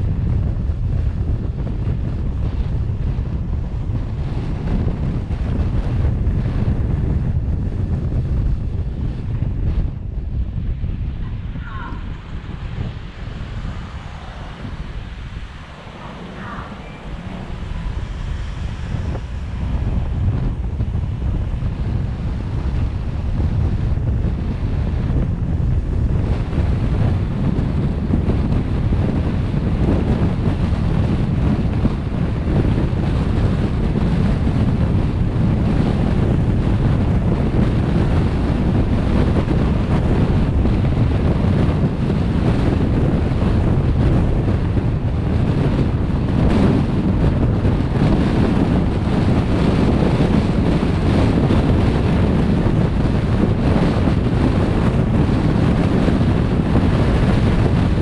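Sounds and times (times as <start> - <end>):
car road noise rumble: 0.0 - 58.0
wind hiss: 0.0 - 58.0.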